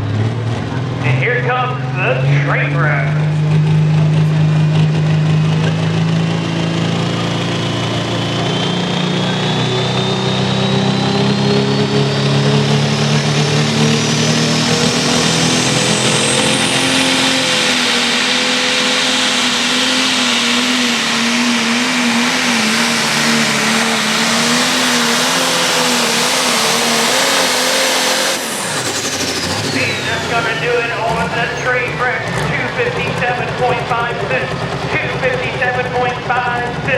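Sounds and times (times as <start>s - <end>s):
pulling machine engine: 3.3s - 36.9s.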